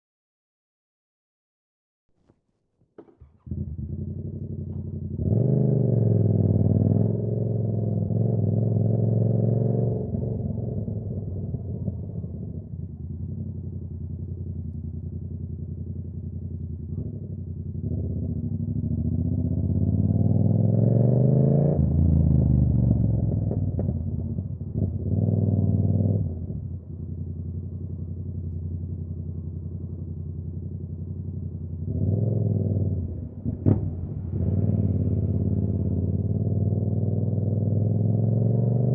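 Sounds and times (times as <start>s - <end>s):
motorcycle engine revving: 3.0s - 38.9s.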